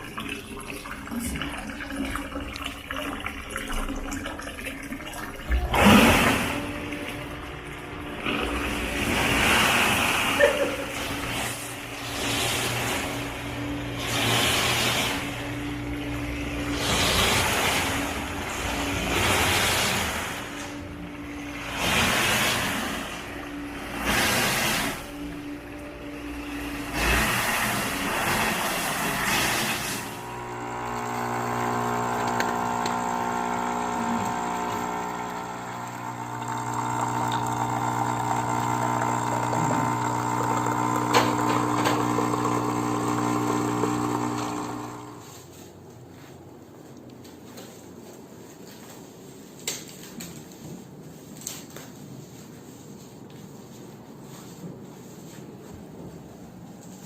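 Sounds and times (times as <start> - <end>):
steady mechanical hum: 0.0 - 57.0
room noise: 5.6 - 57.0.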